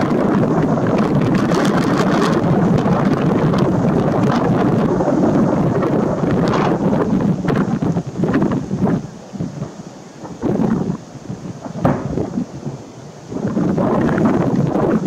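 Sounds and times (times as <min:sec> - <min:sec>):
fireworks booming: 0:00.0 - 0:15.0
fireworks cracking: 0:00.0 - 0:15.0.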